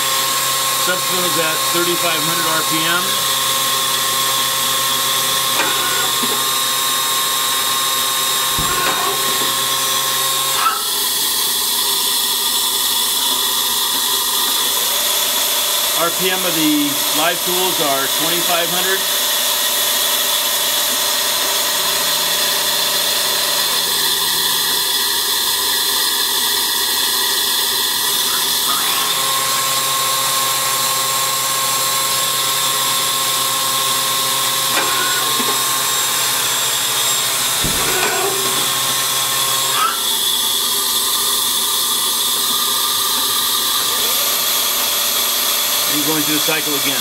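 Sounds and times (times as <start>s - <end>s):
lathe whining: 0.0s - 47.0s.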